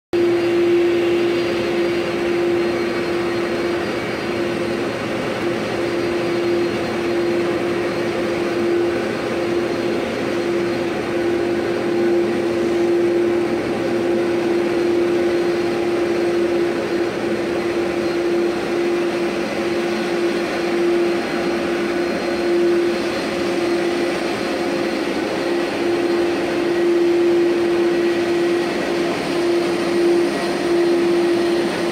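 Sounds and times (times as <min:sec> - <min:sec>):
jet engines running: 0:00.2 - 0:31.9.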